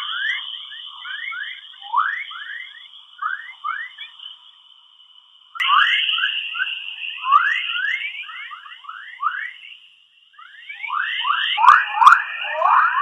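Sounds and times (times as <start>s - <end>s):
steady high whine: 0.0s - 13.0s.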